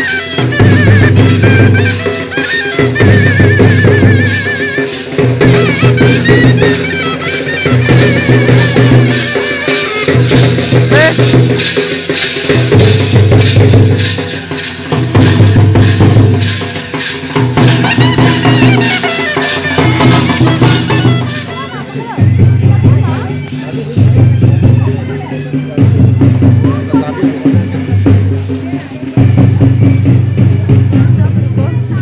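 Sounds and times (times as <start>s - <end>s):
rattling percussion: 0.0s - 32.0s
steady drumming: 0.0s - 32.0s.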